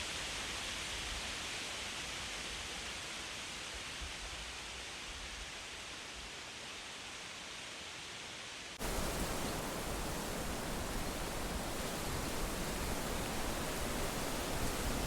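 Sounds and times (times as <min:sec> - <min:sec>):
wind and rustling leaves: 0:00.0 - 0:15.0.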